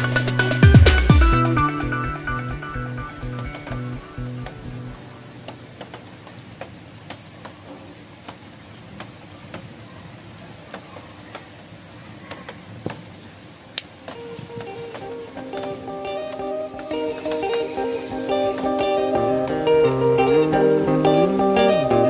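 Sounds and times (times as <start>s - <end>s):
steady background hiss: 1.8s - 22.0s.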